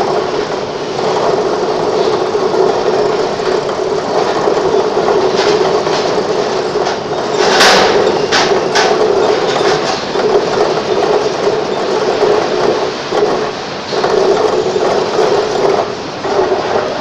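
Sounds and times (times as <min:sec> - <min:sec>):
mechanical running noise: 0:00.0 - 0:17.0
pulsing hum: 0:00.0 - 0:17.0.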